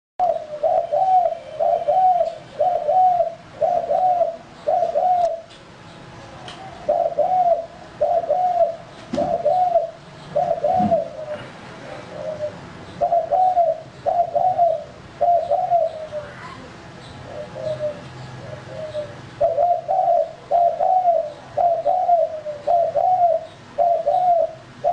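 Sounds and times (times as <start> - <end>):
dove cooing: 0.2 - 5.5, 6.6 - 24.9.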